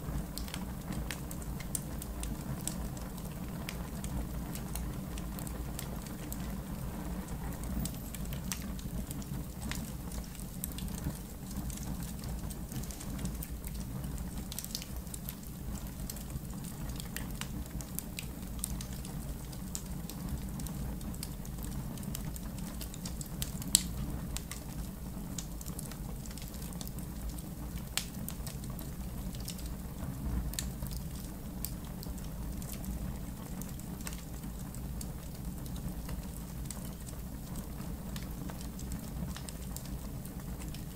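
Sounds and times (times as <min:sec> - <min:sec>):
fire crackling and popping: 0:00.0 - 0:40.9
low rumble of fire: 0:00.0 - 0:40.9.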